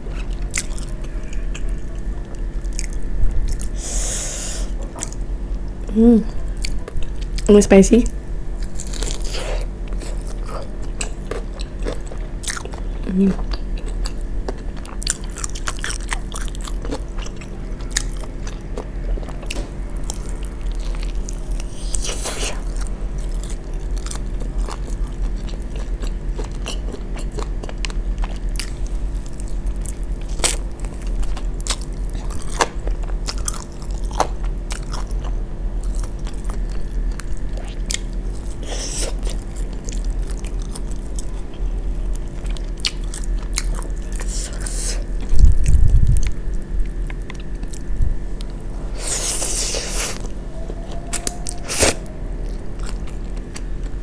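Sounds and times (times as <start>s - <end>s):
chewing crunchy chicken wings: 0.0s - 3.8s, 8.5s - 54.0s
steady low hum: 0.0s - 54.0s.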